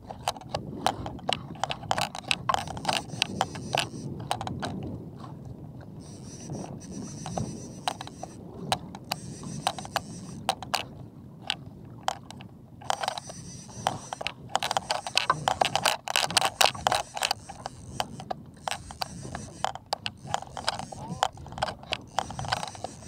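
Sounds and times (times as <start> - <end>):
fishing reel clicking: 0.1 - 4.8, 6.0 - 23.0.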